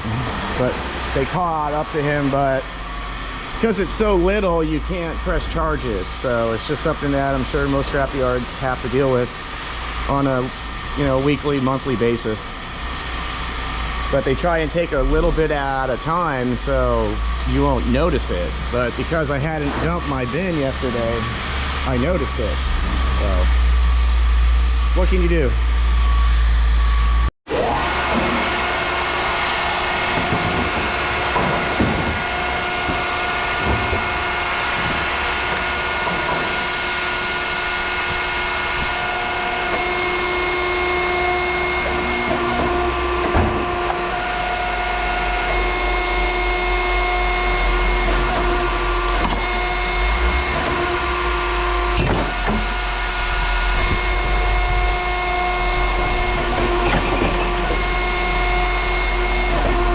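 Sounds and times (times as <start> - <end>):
heavy machinery whining: 0.0 - 59.9.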